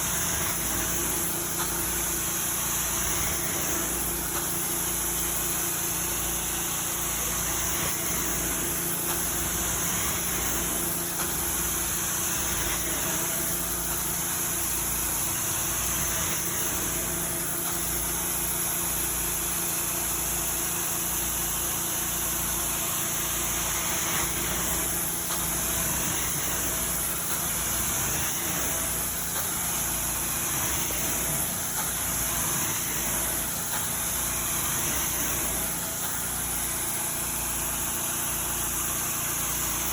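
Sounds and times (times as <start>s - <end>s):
carpet cleaning machine running: 0.0s - 39.9s.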